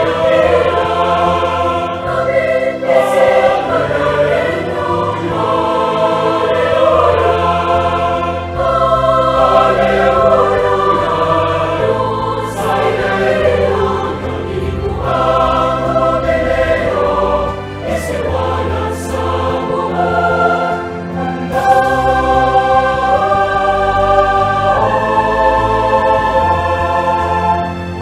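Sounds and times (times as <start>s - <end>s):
choir singing a hymn: 0.0s - 28.0s
instrumental accompaniment: 0.0s - 28.0s.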